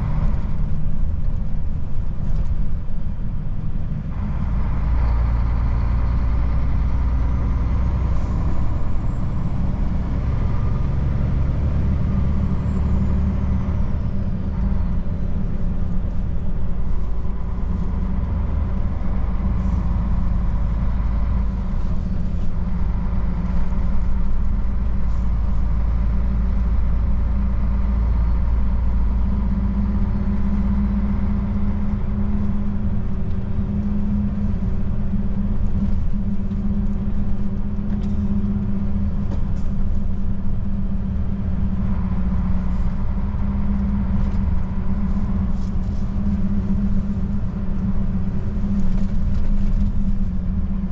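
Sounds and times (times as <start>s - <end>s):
diesel truck engine rumble: 0.0s - 50.9s.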